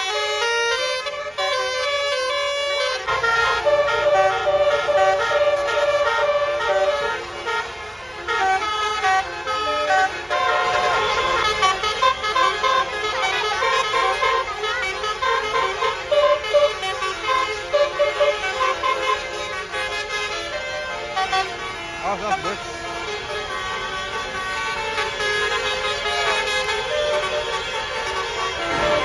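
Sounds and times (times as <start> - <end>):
multi-tone bus air horns: 0.0 - 29.0.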